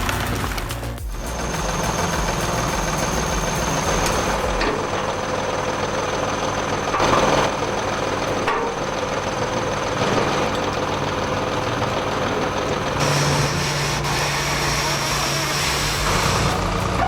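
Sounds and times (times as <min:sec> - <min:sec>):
loud noisy burst: 0:00.0 - 0:17.0
machine engine rumbling: 0:00.0 - 0:17.0.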